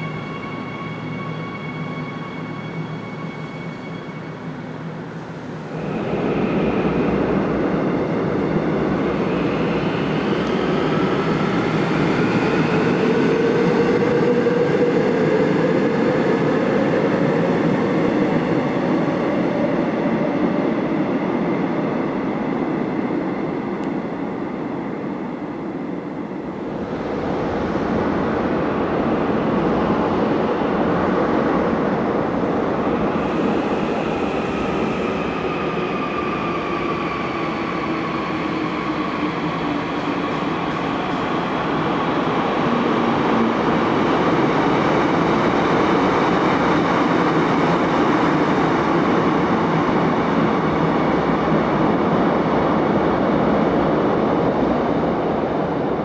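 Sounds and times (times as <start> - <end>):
subway train wheels rumbling: 0.0 - 56.0.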